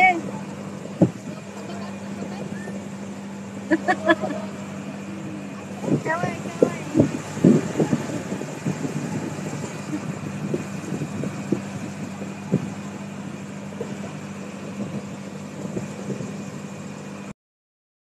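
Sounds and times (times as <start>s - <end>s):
boat engine droning: 0.0s - 17.3s
wind: 0.0s - 17.3s.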